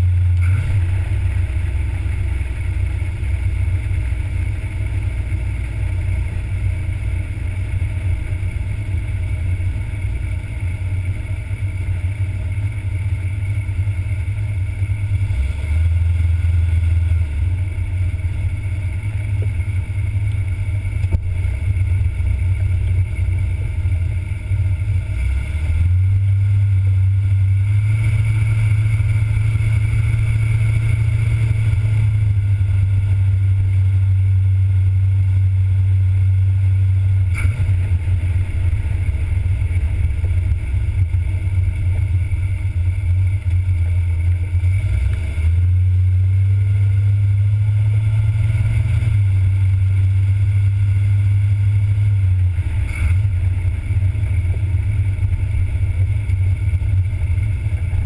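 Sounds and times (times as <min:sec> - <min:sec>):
car engine droning while driving: 0:00.0 - 0:58.0.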